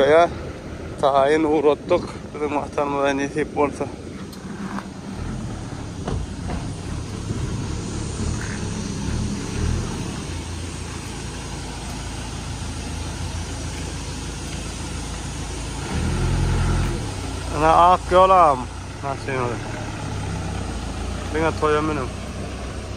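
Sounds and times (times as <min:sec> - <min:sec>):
truck engine rumbling: 0:00.0 - 0:22.9.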